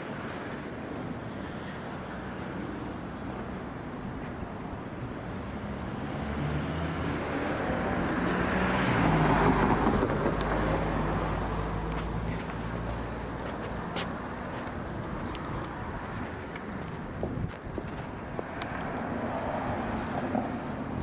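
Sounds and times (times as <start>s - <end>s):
vehicle passing: 1.8s - 21.0s.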